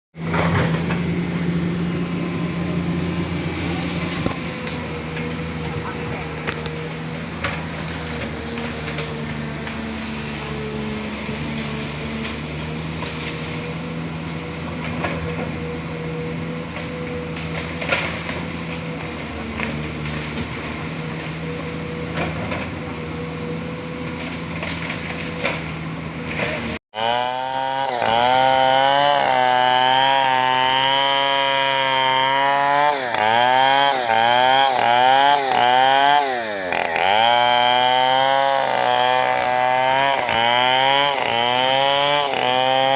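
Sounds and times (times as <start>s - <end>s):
chainsaw cutting wood: 0.2s - 42.9s
heavy machinery engine hum: 0.2s - 42.9s.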